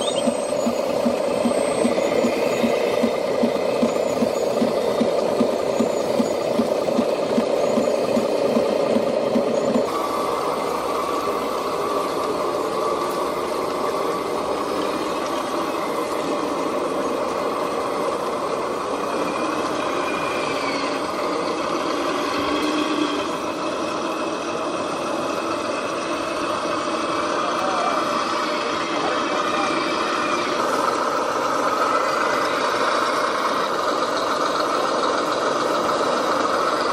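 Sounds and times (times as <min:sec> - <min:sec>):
motor whine: 0:00.0 - 0:36.9
radio-controlled machines running: 0:00.0 - 0:36.9.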